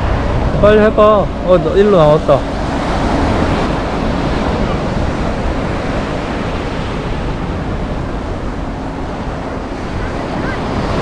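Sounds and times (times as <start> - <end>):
ocean surf washing on beach: 0.0 - 11.0
wind buffeting microphone: 0.0 - 11.0.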